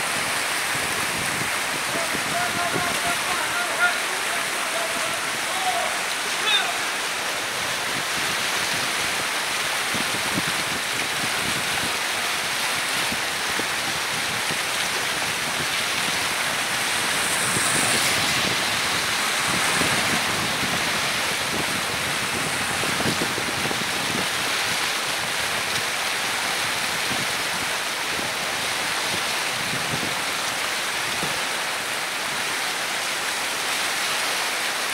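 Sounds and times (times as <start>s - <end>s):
river rushing: 0.0s - 34.9s.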